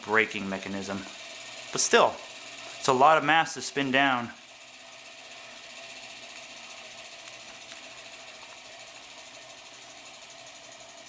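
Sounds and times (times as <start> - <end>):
motor whirring with rapid ticking: 0.0 - 11.0.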